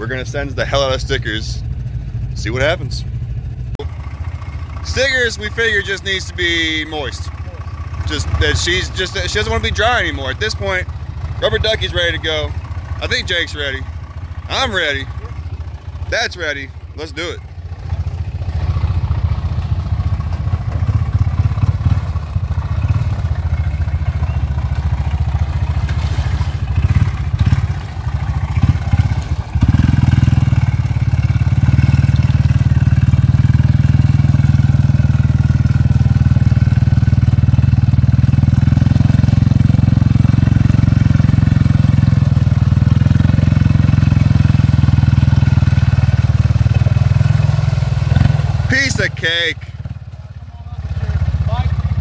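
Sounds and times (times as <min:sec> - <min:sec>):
engine revving: 0:04.8 - 0:52.0.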